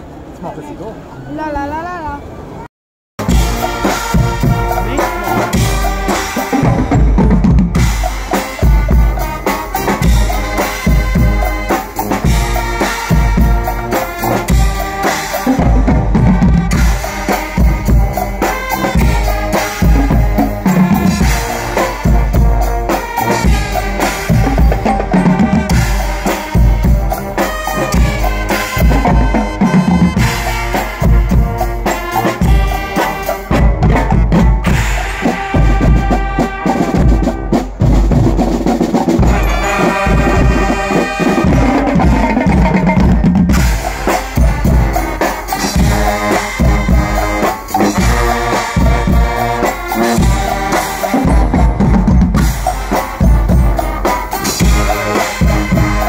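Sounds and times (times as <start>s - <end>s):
brass band playing: 3.2s - 56.0s
pounding drums and cymbals: 3.2s - 56.0s.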